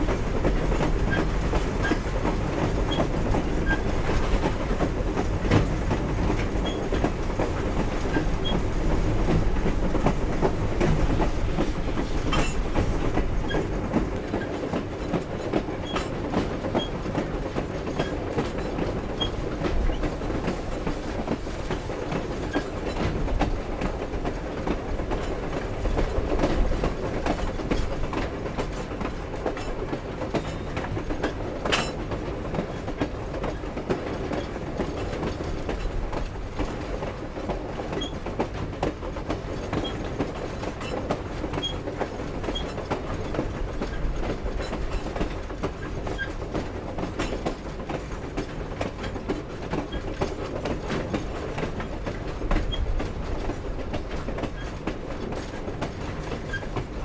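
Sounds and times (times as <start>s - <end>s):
clickety-clack and clanking: 0.0s - 57.0s
train wheels rumbling on rails: 0.0s - 57.0s.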